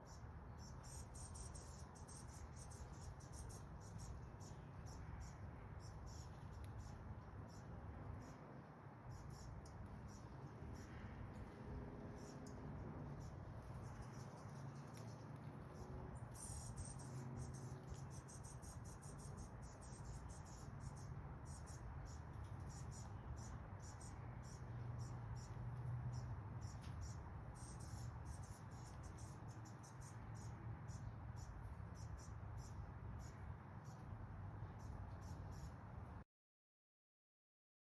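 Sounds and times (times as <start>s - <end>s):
small bird peeping: 0.0s - 8.4s, 9.1s - 11.5s, 12.2s - 35.8s.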